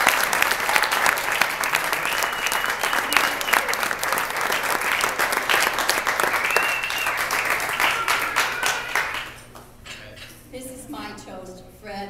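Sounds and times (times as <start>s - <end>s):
crowd applauding: 0.0s - 9.7s.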